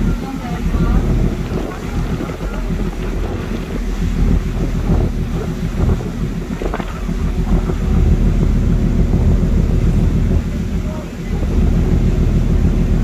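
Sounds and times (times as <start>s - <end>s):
boat engine hum: 0.0s - 13.0s
churning water rushing: 0.0s - 13.0s
wind buffeting microphone: 0.0s - 13.0s.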